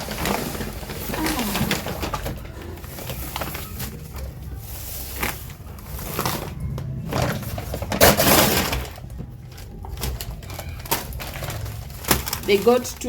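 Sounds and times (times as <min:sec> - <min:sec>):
packaging crackling and rustling: 0:00.0 - 0:13.0.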